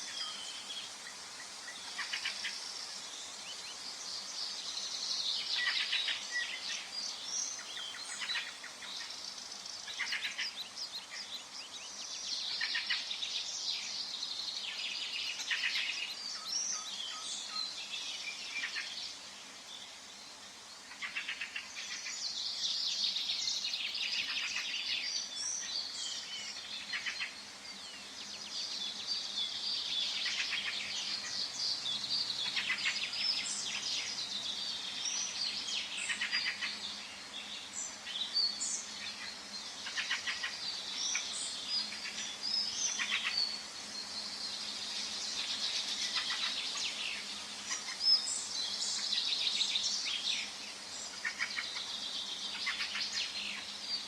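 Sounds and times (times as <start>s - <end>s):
faint steady hiss: 0.0s - 54.0s
songbirds singing and chirping: 0.0s - 54.0s.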